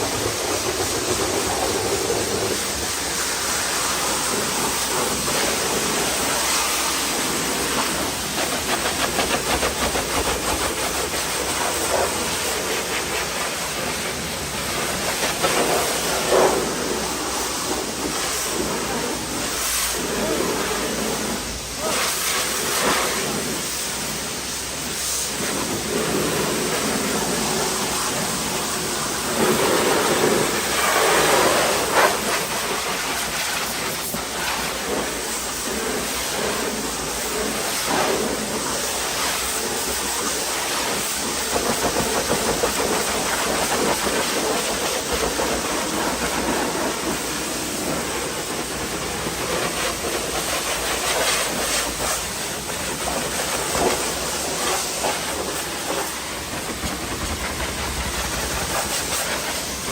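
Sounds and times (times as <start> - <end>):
pressure washer spraying car: 0.0 - 59.9.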